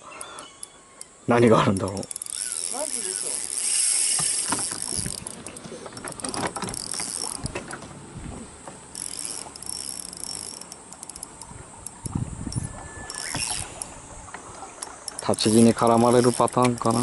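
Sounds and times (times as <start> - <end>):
fishing reel clicking and rattling: 0.2 - 7.8, 8.6 - 17.0
high buzzing: 0.3 - 7.7, 8.6 - 17.0.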